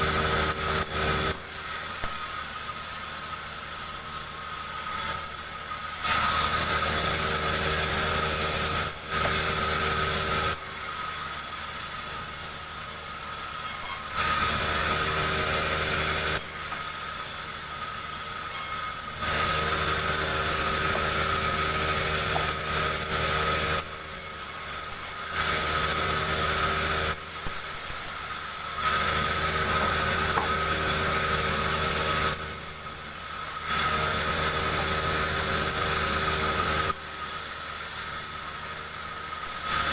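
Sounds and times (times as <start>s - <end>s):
chainsaw cutting log: 0.0s - 2.4s, 5.0s - 12.5s, 13.7s - 39.9s.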